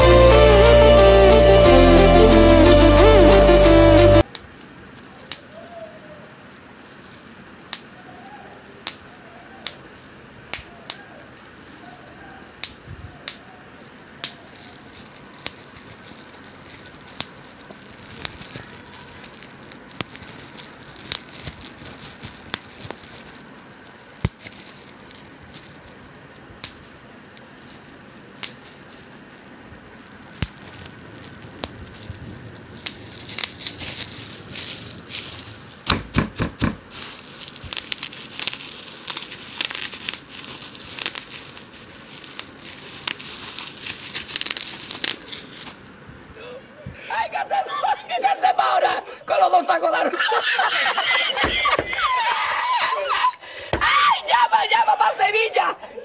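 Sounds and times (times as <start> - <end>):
bubble wrap popping: 0.0 - 46.3, 50.4 - 54.8
plastic crinkling: 4.2 - 46.3, 50.3 - 54.8.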